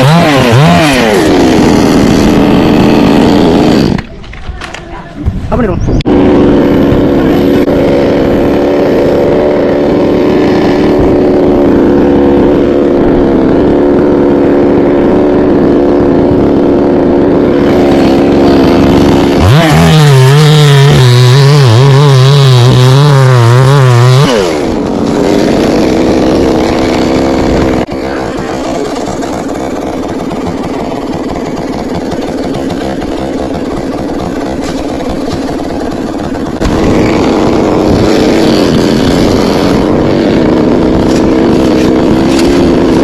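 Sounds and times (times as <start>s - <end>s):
chainsaw running: 0.0s - 4.4s, 6.1s - 43.0s.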